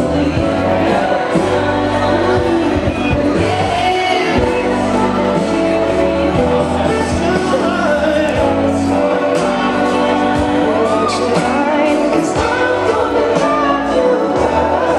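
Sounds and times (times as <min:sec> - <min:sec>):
pop song with singing: 0:00.0 - 0:14.9.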